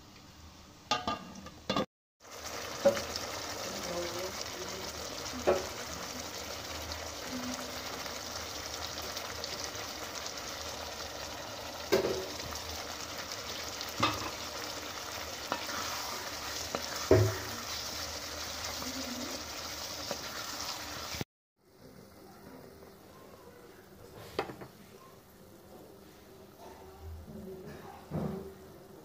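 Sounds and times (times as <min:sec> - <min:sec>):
meat and gravy sizzling in a pot: 0:01.7 - 0:26.6.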